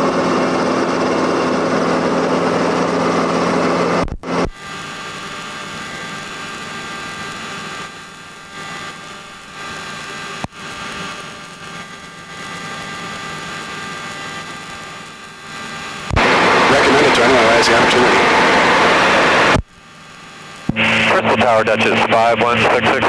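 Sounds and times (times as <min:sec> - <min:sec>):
helicopter drone and whine: 0:00.0 - 0:23.0.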